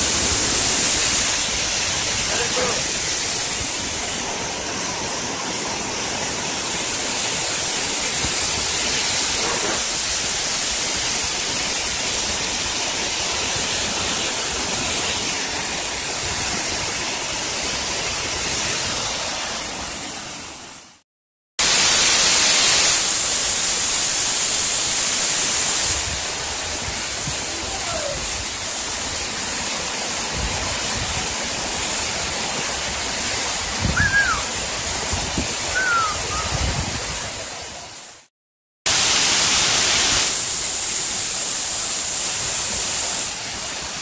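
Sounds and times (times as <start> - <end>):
waterfall rushing: 0.0 - 21.0, 21.6 - 38.3, 38.9 - 44.0.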